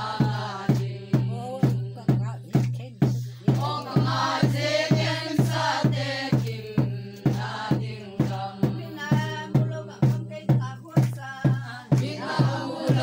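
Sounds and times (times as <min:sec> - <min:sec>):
deep drum beating: 0:00.0 - 0:13.0
group of voices singing: 0:00.0 - 0:13.0.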